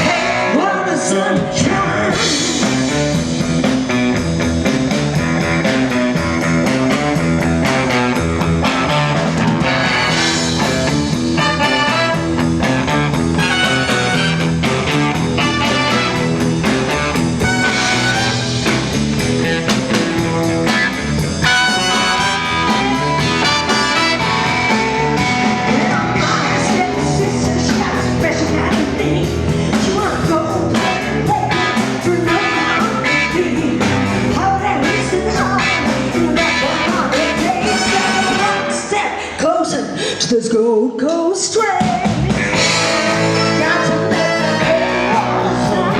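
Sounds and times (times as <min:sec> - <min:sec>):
electric guitar: 0:00.0 - 0:39.4, 0:41.8 - 0:45.9
drum beat: 0:01.4 - 0:38.6.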